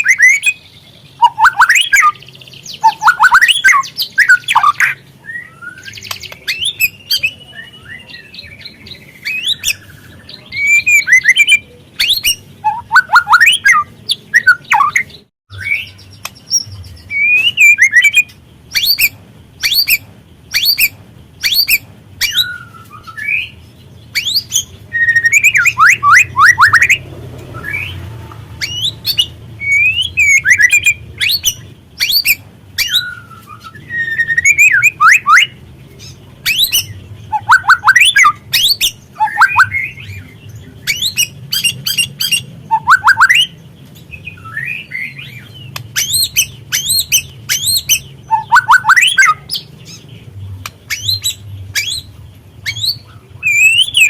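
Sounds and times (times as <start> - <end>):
bird singing sliding whistles: 0.0 - 0.6, 1.2 - 2.2, 2.8 - 8.1, 9.2 - 23.6, 24.2 - 28.0, 28.6 - 35.6, 36.5 - 40.2, 40.9 - 43.6, 44.2 - 49.6, 50.9 - 54.0.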